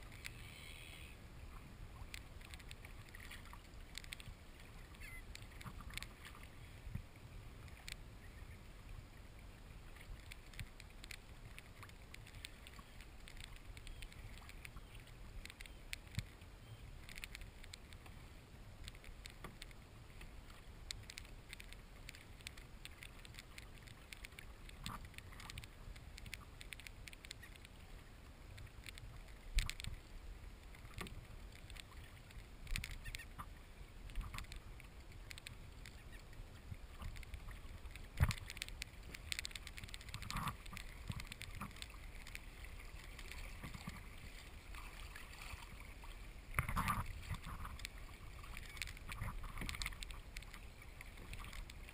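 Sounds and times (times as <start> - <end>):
water lapping against kayak hull: 0.0 - 51.9
small knocks and clicks: 2.0 - 7.0, 9.9 - 16.4, 17.0 - 18.2, 18.8 - 27.8, 28.5 - 33.5, 34.1 - 44.5, 46.5 - 51.9.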